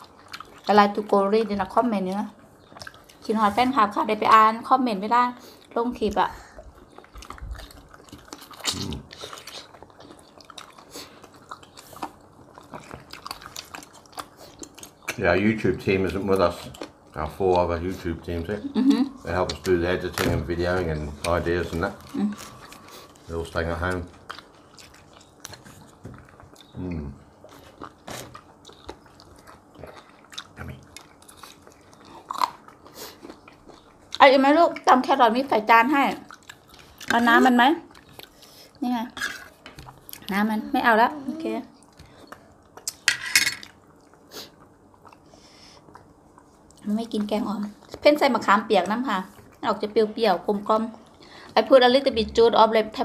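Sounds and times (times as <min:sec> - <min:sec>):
biting and chewing food: 0:00.0 - 0:18.5, 0:19.3 - 0:40.4, 0:41.7 - 0:52.3.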